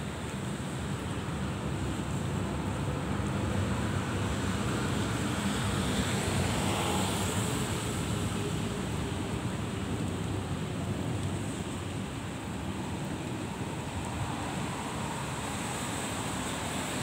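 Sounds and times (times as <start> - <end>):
distant city traffic: 0.0 - 17.0.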